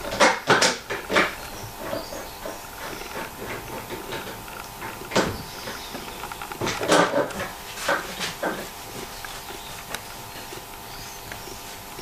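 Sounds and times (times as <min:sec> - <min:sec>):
faint knocks and clicks: 0:00.0 - 0:11.4.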